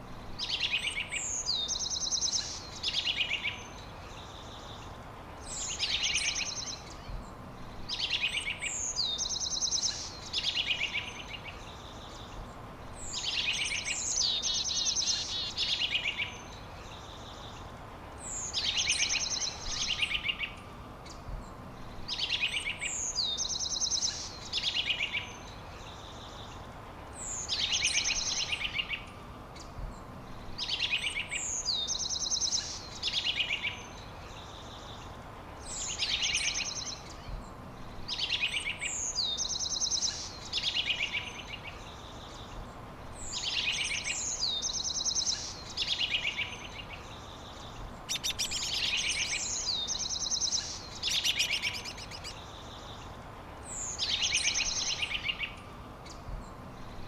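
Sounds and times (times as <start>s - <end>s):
faint outdoor hiss: 0.0s - 57.0s
songbird singing with trill: 0.0s - 57.0s.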